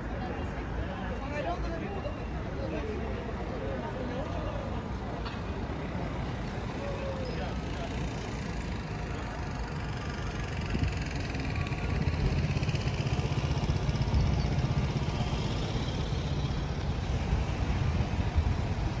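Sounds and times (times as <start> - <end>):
car engines passing: 2.8 - 19.0.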